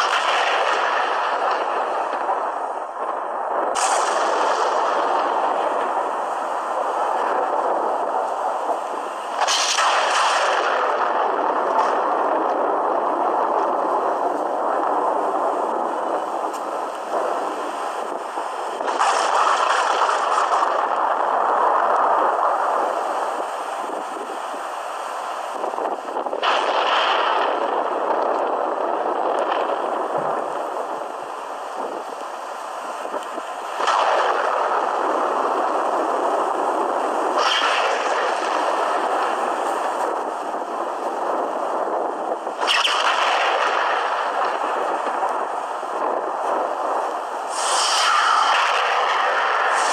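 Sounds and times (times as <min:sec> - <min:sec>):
sharp thunder crack: 0:00.0 - 0:24.3, 0:25.6 - 0:31.2, 0:33.0 - 0:49.9
thunder clap and rumble: 0:00.0 - 0:49.9.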